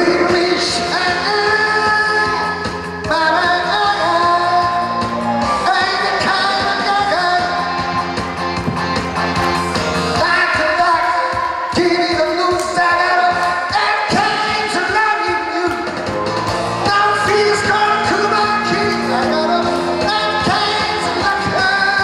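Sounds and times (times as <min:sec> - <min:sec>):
man singing into microphone: 0:00.0 - 0:08.0, 0:10.1 - 0:16.1, 0:16.7 - 0:22.0.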